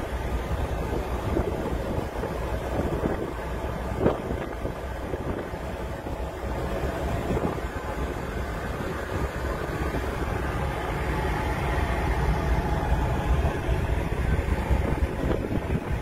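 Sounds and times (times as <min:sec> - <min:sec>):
passing sea: 0:00.0 - 0:16.0
ship engines rumbling: 0:00.0 - 0:16.0
wind buffeting microphone: 0:00.0 - 0:16.0.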